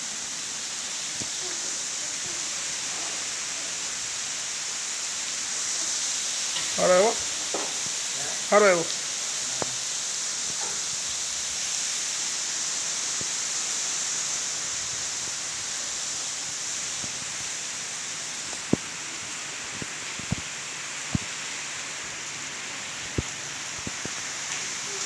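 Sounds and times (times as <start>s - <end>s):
steady rain falling: 0.0s - 25.0s
sharp water drips: 0.4s - 25.0s.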